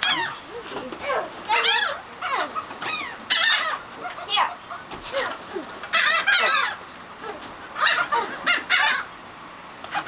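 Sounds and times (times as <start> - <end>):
seagulls calling: 0.0 - 9.3.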